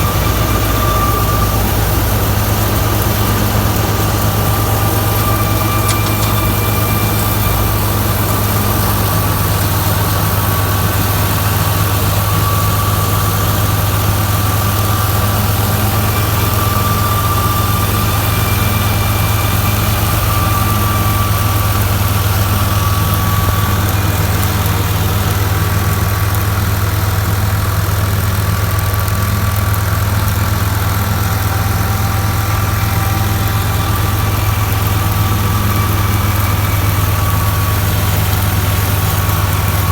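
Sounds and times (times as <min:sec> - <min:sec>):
thin steady whine: 0:00.0 - 0:39.9
tractor diesel engine drone: 0:00.0 - 0:39.9.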